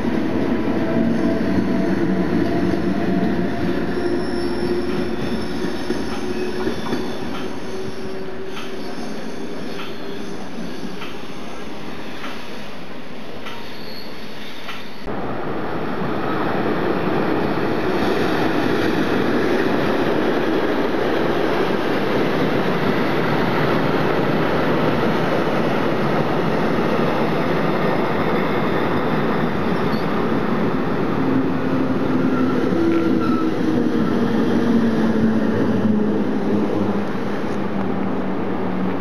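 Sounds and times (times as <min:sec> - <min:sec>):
train wheels rumbling on rails: 0:00.0 - 0:15.2, 0:16.1 - 0:39.0.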